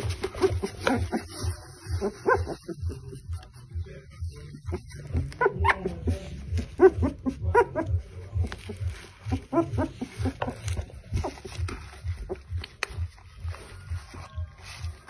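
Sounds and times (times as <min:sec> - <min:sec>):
puppy whimpering and growling: 0:00.0 - 0:03.7, 0:04.4 - 0:14.4.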